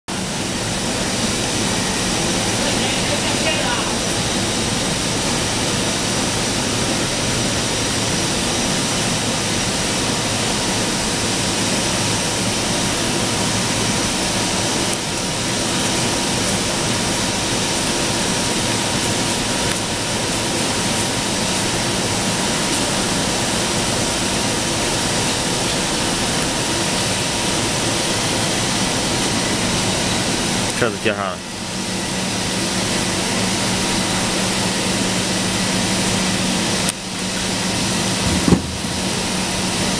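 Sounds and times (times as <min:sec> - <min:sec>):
faint steady whine: 0:00.1 - 0:39.9
workshop machinery rushing: 0:00.1 - 0:39.9.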